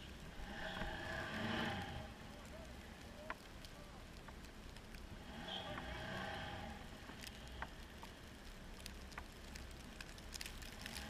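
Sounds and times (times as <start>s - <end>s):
muffled snowmobile engine: 0.0s - 11.0s
small clicks and ticks: 0.0s - 11.0s.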